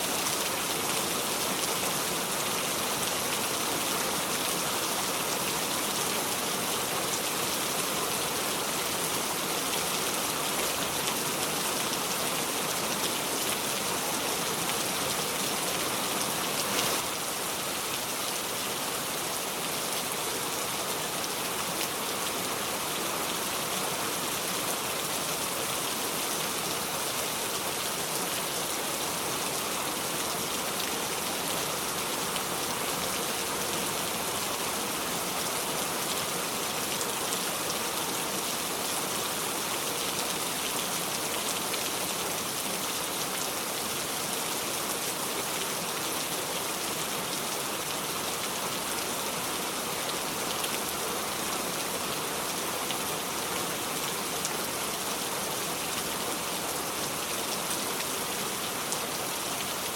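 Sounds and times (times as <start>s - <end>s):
rain spattering on a surface: 0.1s - 59.9s.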